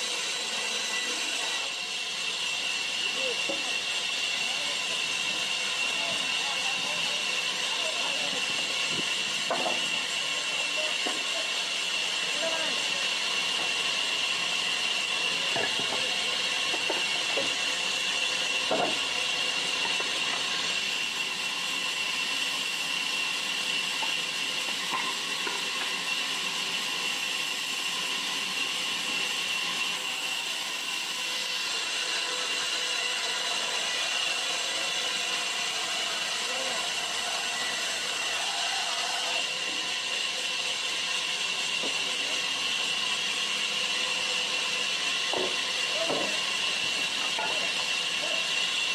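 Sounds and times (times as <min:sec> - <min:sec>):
band saw cutting timber: 0:00.0 - 0:48.9.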